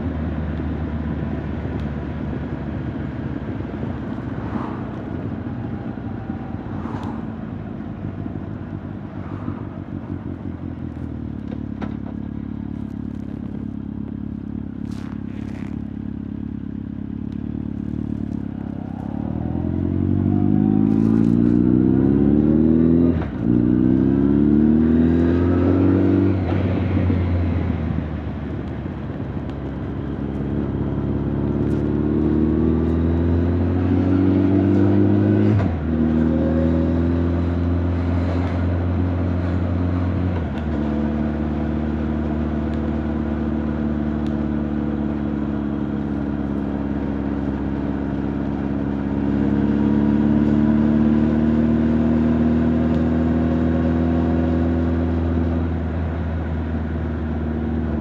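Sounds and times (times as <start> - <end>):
motorcycle exhaust shifting up: 0.0 - 58.0.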